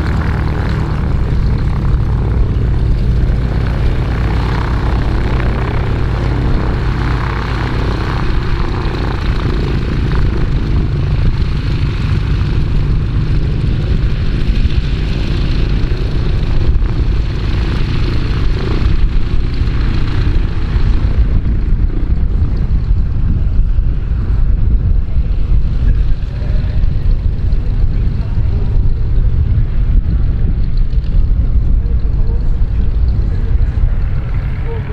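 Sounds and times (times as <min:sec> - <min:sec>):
biplane radial engine taxiing: 0:00.0 - 0:34.9.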